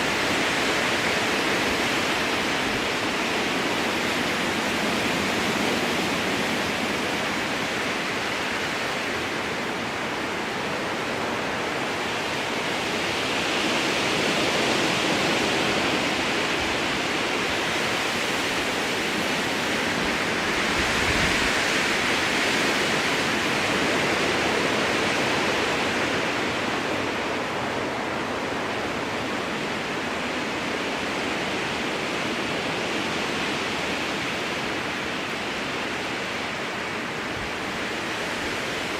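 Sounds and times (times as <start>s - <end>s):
strong wind through forest: 0.0s - 38.9s.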